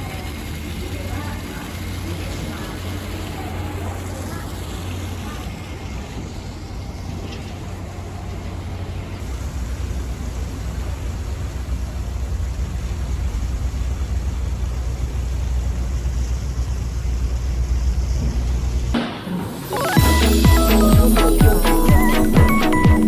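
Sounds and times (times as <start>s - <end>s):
boat low rumble: 0.0s - 19.1s
wind: 0.0s - 20.0s
water rushing: 0.0s - 23.0s.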